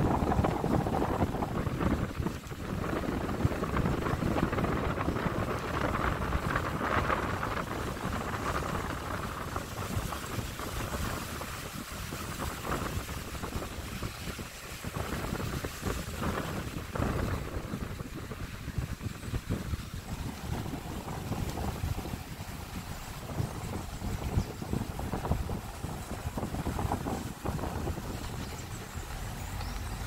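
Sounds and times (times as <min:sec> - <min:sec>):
car driving rumble: 0:00.0 - 0:30.0
wind rushing over microphone: 0:00.0 - 0:30.0.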